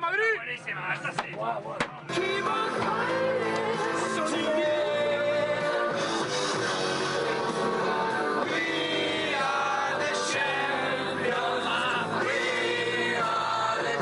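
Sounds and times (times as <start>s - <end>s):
men singing together to loud music: 2.1s - 14.0s.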